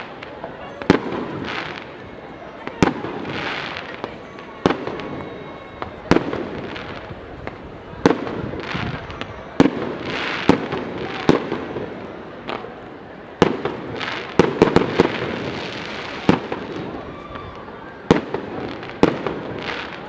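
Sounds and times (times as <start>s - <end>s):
fireworks bursting with bangs: 0.0s - 20.0s
fireworks crackling and hissing: 0.0s - 20.0s.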